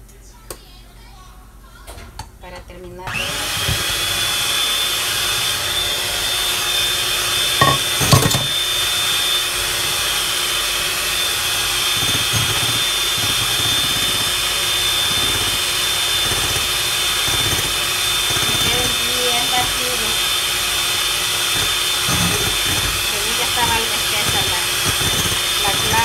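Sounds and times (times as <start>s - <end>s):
electric hand mixer whining: 3.1s - 26.0s.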